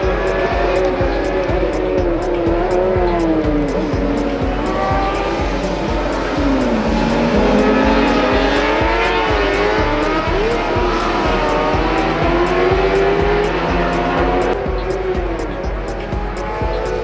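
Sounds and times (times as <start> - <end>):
background music with steady beat: 0.0 - 17.0
racing engines: 0.0 - 17.0.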